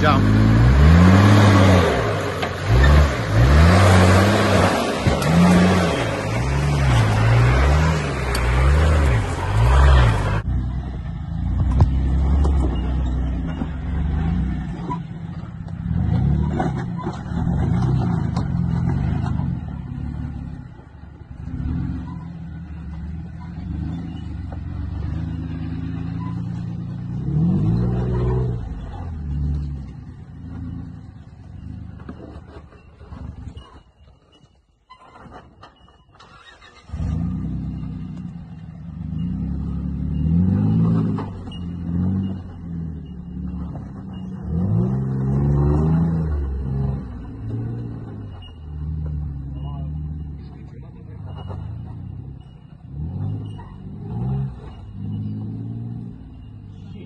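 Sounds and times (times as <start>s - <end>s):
off-road engines revving: 0.0s - 34.0s, 35.0s - 57.0s.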